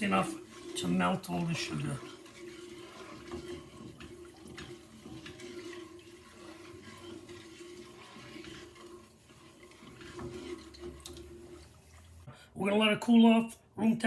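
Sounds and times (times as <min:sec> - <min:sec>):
liquid swishing: 0:00.0 - 0:12.3.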